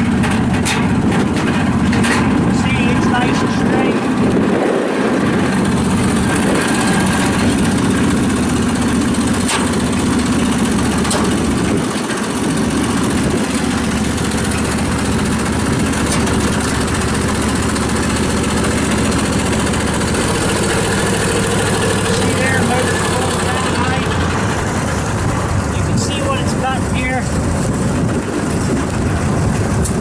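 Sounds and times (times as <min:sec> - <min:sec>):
wood chipper engine running: 0:00.0 - 0:30.0.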